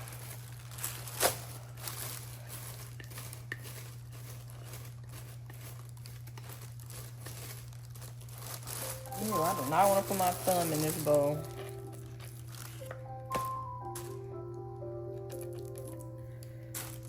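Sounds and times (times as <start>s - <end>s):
plastic bag rustling: 0.0s - 14.5s, 15.1s - 17.0s
steady low hum: 0.0s - 17.0s.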